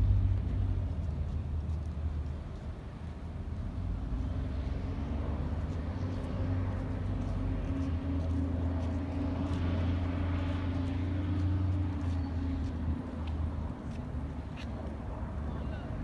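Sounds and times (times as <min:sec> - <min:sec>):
motor vehicle engine hum: 0:00.0 - 0:16.0.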